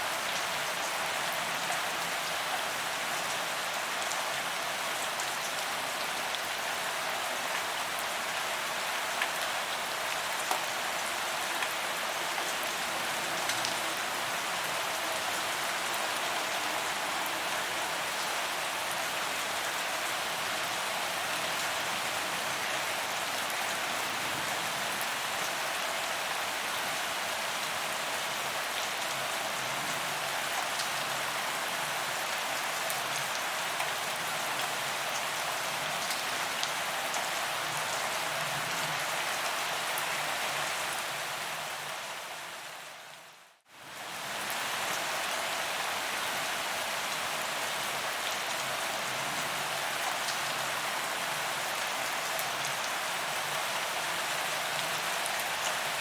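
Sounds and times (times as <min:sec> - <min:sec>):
rain on pavement: 0:00.0 - 0:42.9, 0:43.7 - 0:56.0.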